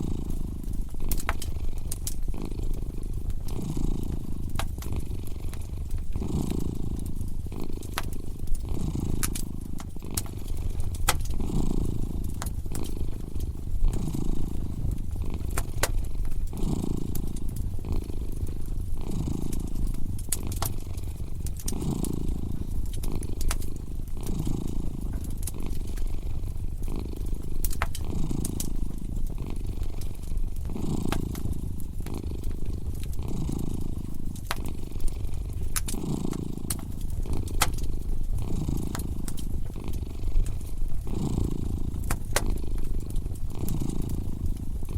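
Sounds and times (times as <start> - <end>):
cat purring: 0.0 - 44.9
fire crackling and popping: 0.0 - 44.9.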